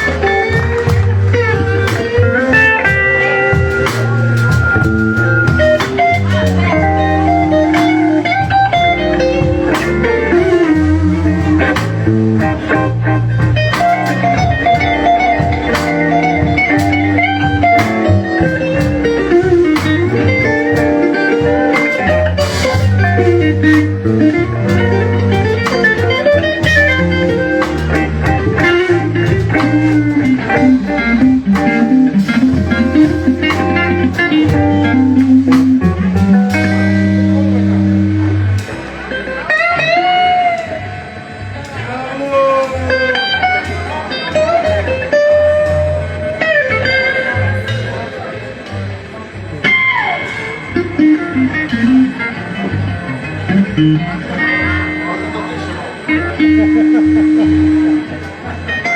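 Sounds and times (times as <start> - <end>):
bass and drums: 0.0 - 58.9
electric guitar lead lines: 0.0 - 58.9.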